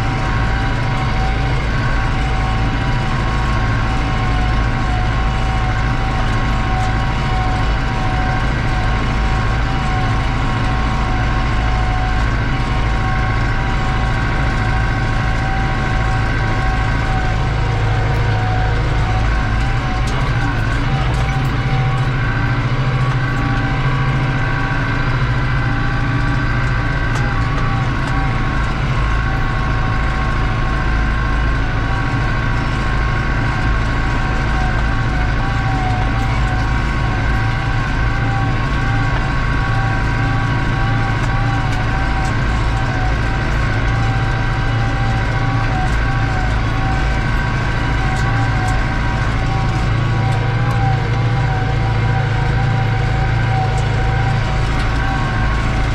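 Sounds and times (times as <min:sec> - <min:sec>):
tractor diesel engine drone: 0:00.0 - 0:55.9
turbo whine: 0:00.0 - 0:55.9.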